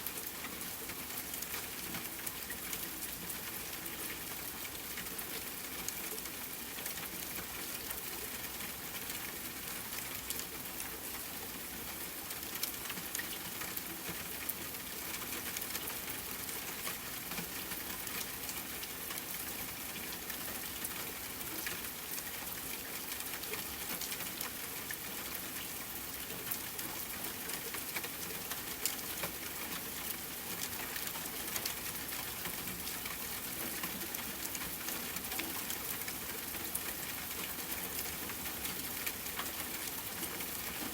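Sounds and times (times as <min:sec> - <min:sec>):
rain falling on a tent: 0:00.0 - 0:40.9.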